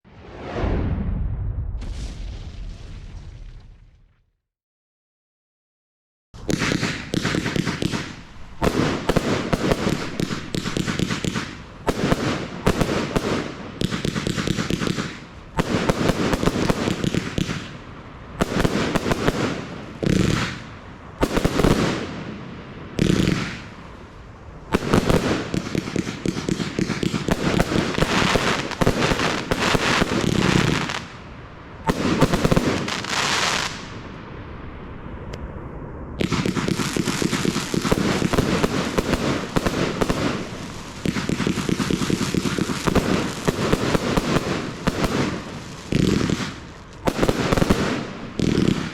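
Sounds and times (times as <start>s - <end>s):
firework bangs and crackles: 0.1s - 4.2s, 6.4s - 48.9s.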